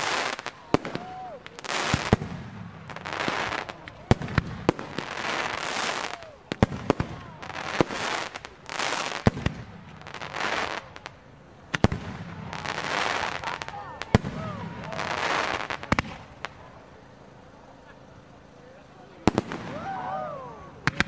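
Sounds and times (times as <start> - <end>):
fireworks bursting with bangs: 0.0 - 21.0
fireworks hissing and crackling: 0.0 - 21.0.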